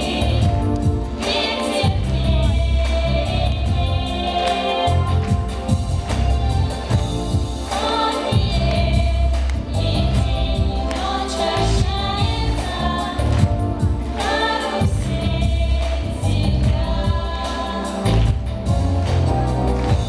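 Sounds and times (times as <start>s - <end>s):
girls singing in unison: 0.0s - 18.5s
pop backing track: 0.0s - 20.0s.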